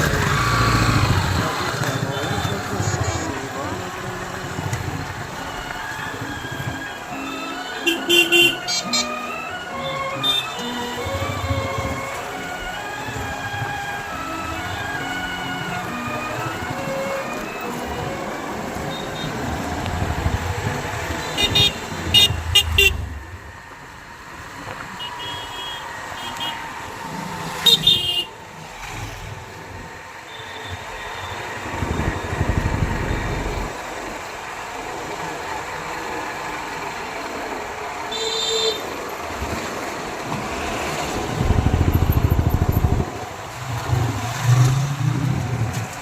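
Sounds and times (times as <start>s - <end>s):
vehicles passing: 0.0s - 46.0s.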